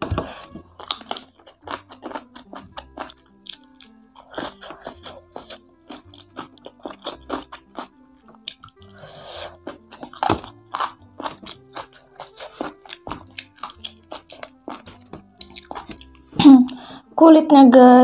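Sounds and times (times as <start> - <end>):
background music: 0.0 - 18.0
chewing crispy chicken crunches: 0.4 - 16.2.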